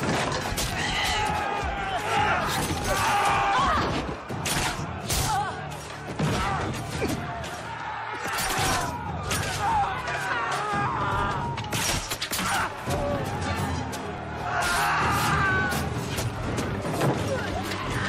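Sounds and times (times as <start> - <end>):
dramatic music: 0.0 - 18.0
people screaming and shouting: 0.0 - 18.0.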